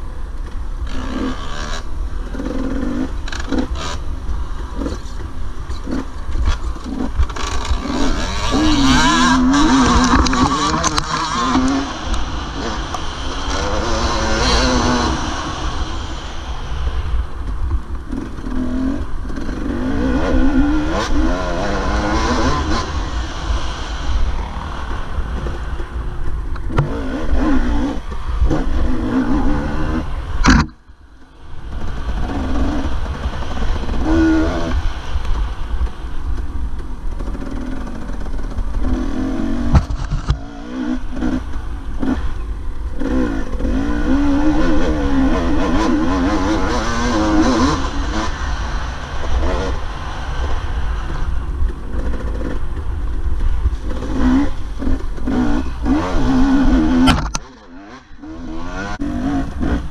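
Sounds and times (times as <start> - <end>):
dirt bike engine revving: 0.8 - 59.9.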